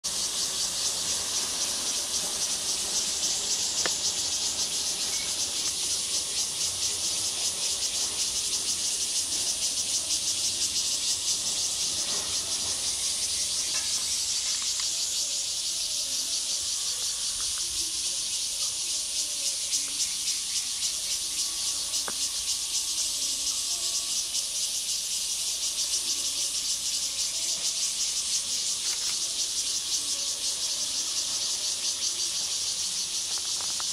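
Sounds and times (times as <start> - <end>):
insect chorus buzzing: 0.0 - 33.9.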